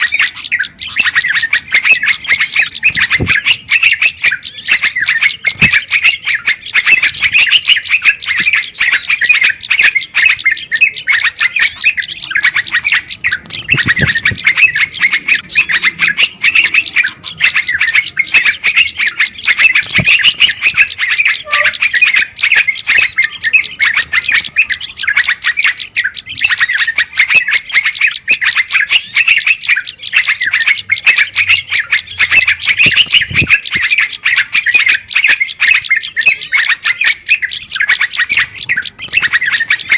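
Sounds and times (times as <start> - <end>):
songbirds chattering: 0.0 - 39.9.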